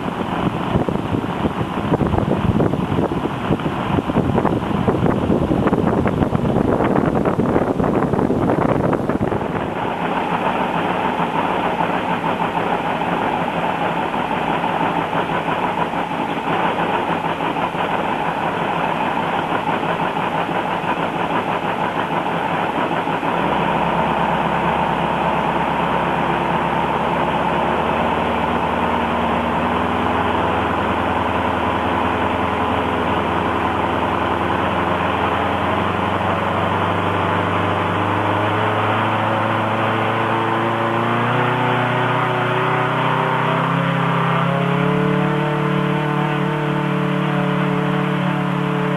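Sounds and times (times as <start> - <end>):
radial aircraft engine running: 0.0 - 48.9.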